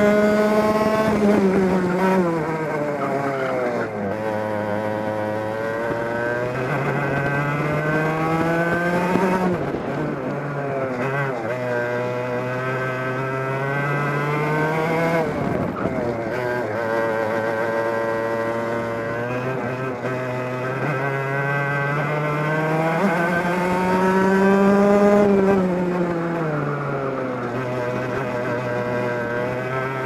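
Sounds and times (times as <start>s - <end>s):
kart engine revving: 0.0s - 30.0s.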